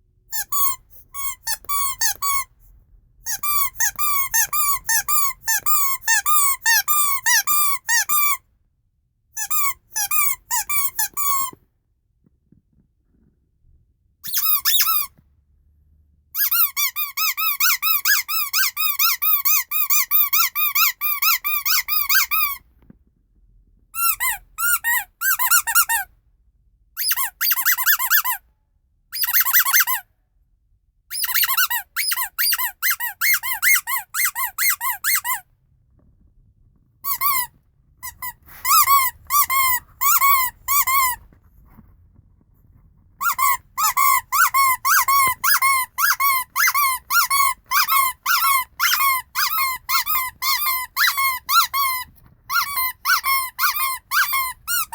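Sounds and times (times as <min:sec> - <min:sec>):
rubber squeaky toy squeaking: 0:00.2 - 0:02.6, 0:03.2 - 0:08.5, 0:09.3 - 0:11.6, 0:14.2 - 0:15.2, 0:16.3 - 0:22.9, 0:23.9 - 0:26.2, 0:26.9 - 0:28.5, 0:29.1 - 0:30.1, 0:31.1 - 0:35.5, 0:36.7 - 0:41.8, 0:42.6 - 0:54.9.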